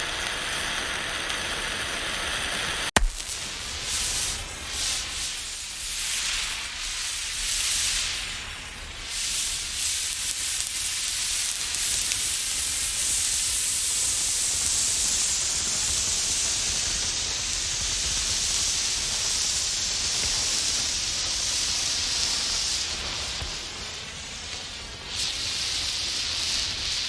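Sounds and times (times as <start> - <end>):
road flare hissing: 0.0 - 27.0.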